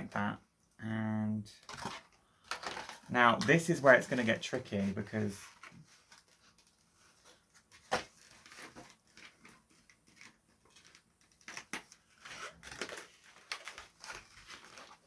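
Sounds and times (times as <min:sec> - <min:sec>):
plastic packaging rustling and clicking: 0:01.6 - 0:15.0.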